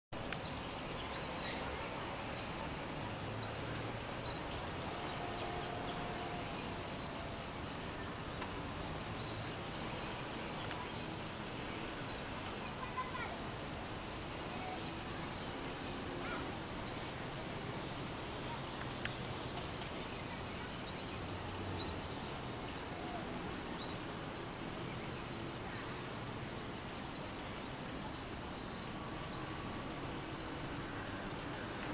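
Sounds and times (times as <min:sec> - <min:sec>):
finch twittering song: 0:00.2 - 0:31.9
steady background noise: 0:00.2 - 0:31.9.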